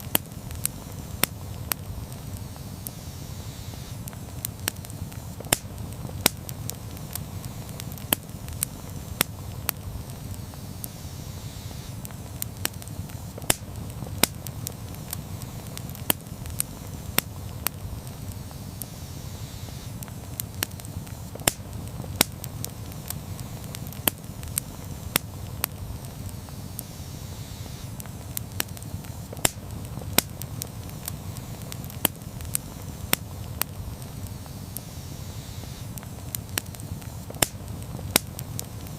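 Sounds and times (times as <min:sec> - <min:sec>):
campfire crackling: 0:00.0 - 0:38.9
low rumble of flames: 0:00.0 - 0:38.9
sharp fire pops: 0:00.0 - 0:38.9.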